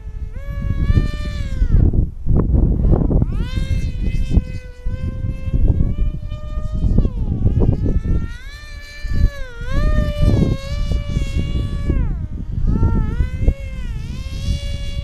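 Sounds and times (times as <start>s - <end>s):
electric motor and propeller whining: 0.0s - 15.0s
wind buffeting microphone: 0.0s - 15.0s.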